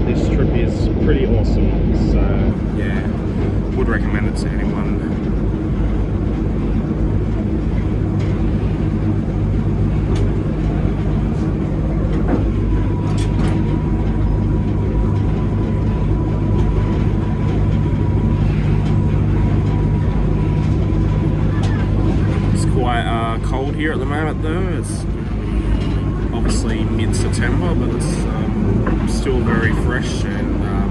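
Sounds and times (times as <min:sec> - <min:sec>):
locomotive engine drone: 0:00.0 - 0:30.9
train carriage running noise: 0:00.0 - 0:30.9.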